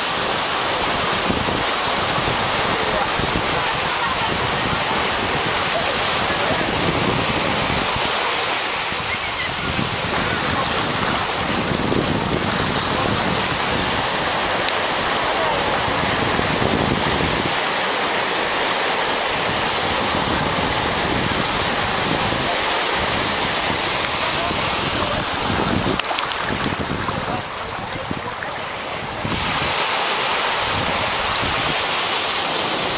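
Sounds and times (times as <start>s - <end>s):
waves breaking on beach: 0.0s - 32.9s
wind on microphone: 0.0s - 32.9s.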